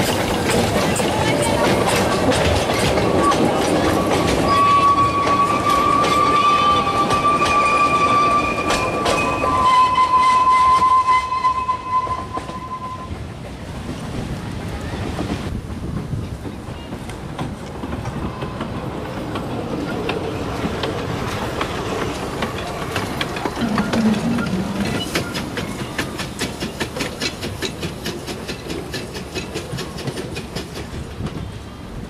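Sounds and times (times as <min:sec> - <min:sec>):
wheels clicking over rail joints: 0:00.0 - 0:12.7, 0:13.3 - 0:32.0
train rumble: 0:00.0 - 0:32.0.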